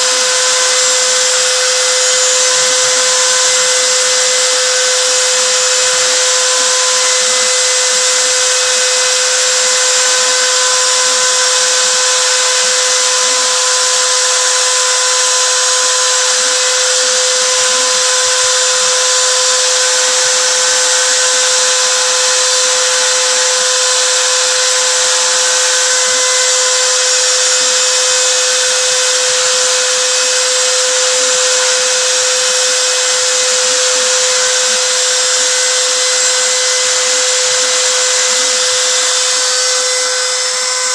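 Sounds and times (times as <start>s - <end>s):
router spindle high whine: 0.0s - 40.9s.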